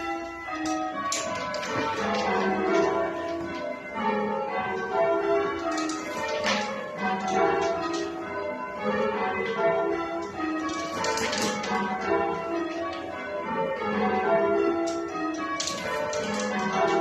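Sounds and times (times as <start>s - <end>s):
church bells change ringing: 0.0s - 17.0s.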